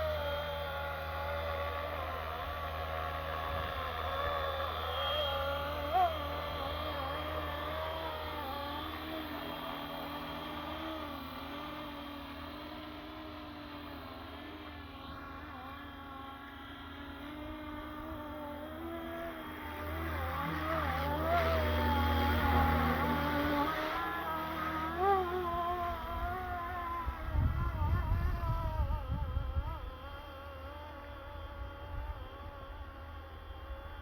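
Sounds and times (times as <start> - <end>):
rc helicopter motor whine: 0.0 - 34.0
screaming tail motor: 0.0 - 34.0.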